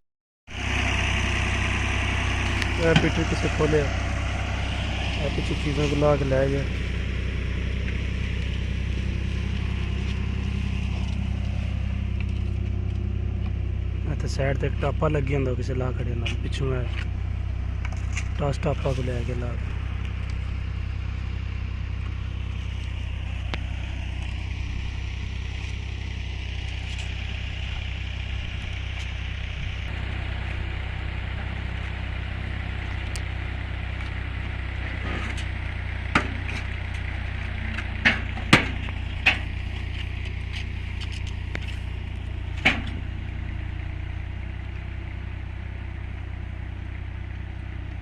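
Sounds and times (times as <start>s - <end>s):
engine idling: 0.5s - 48.0s.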